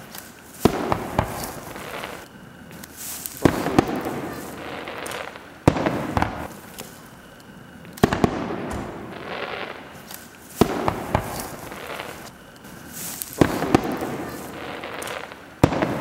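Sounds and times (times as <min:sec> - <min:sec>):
crackling rumble: 0:00.0 - 0:16.0
firework shells bursting: 0:00.0 - 0:16.0.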